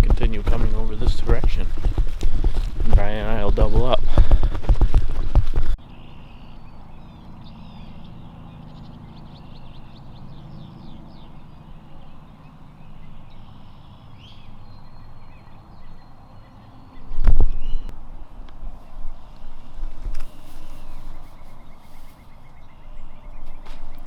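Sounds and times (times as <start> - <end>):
songbirds chirping: 0.0 - 4.3, 5.7 - 24.0.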